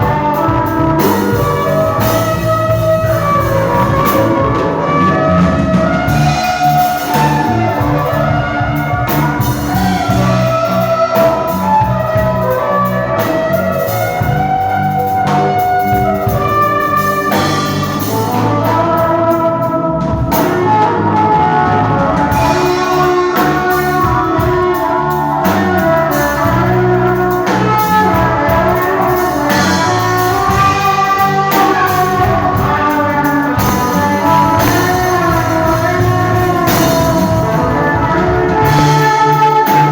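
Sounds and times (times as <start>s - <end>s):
band playing: 0.0s - 39.9s.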